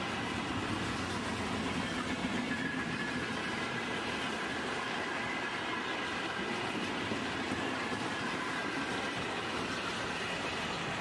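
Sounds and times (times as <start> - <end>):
train wheels running on track: 0.0 - 11.0.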